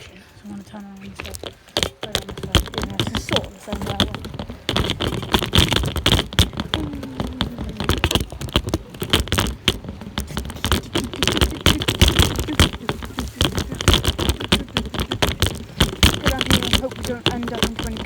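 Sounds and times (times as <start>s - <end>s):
bicycle rattling over rough path: 0.0s - 18.0s.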